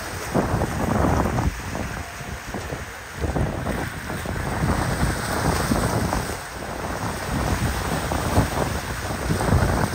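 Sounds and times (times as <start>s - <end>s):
waves and churned water: 0.0s - 9.9s
wind buffeting microphone: 0.0s - 9.9s.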